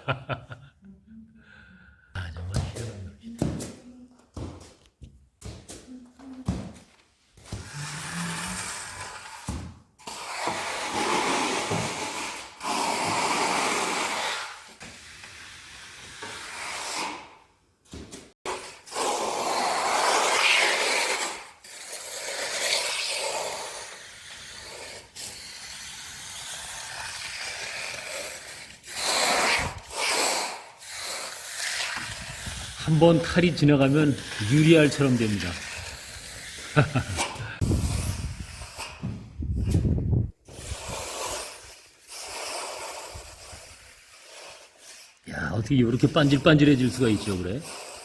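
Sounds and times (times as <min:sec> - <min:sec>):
trowel scraping cement floor: 0:02.6 - 0:48.0.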